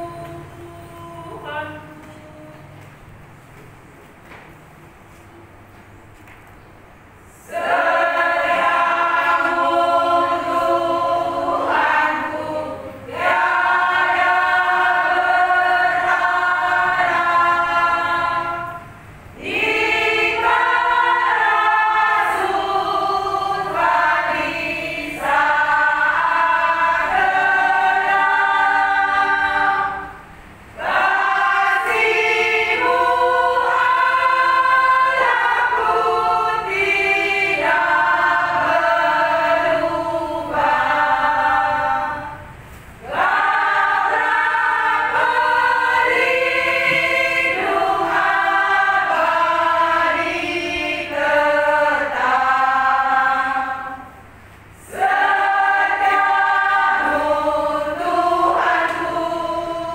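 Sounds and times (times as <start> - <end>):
women's choir singing: 0.0 - 3.9, 7.0 - 59.9.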